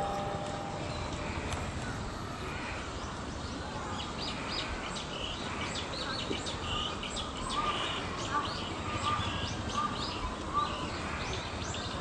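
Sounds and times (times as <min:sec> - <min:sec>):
outdoor background hum: 0:00.0 - 0:12.0.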